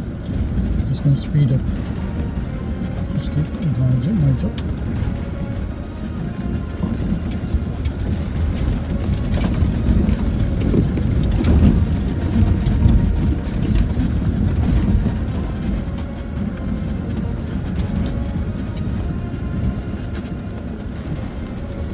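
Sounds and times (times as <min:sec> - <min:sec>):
engine and tyres rumbling: 0:00.0 - 0:21.9.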